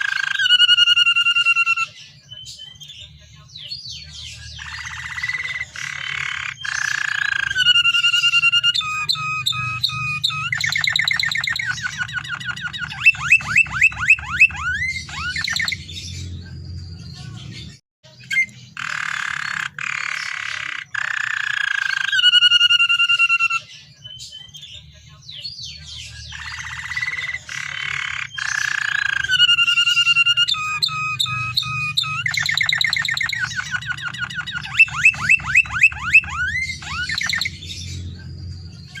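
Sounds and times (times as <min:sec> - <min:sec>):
canary singing: 0:00.0 - 0:39.0.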